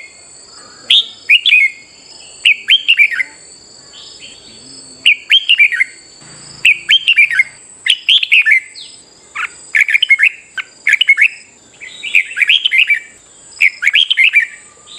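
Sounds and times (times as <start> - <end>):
bird warbling song: 0.0 - 14.9.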